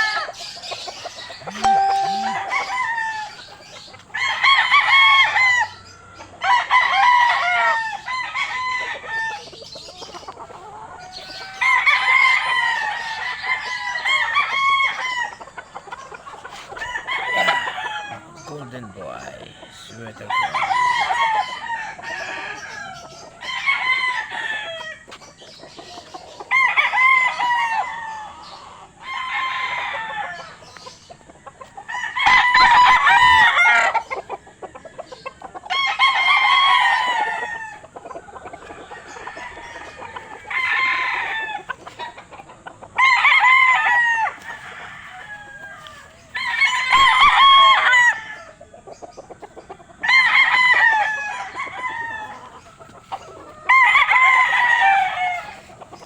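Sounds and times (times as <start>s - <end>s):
roosters crowing: 3.7s - 48.8s, 49.6s - 56.0s.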